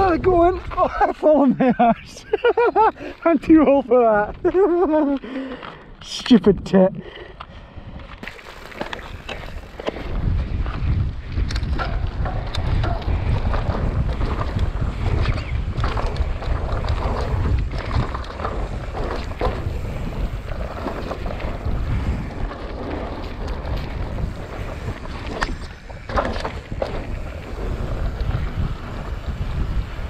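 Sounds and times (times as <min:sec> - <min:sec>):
wind buffeting microphone: 0:00.0 - 0:05.0, 0:06.5 - 0:30.0
bike clicks and rattles: 0:00.0 - 0:06.3, 0:07.4 - 0:30.0.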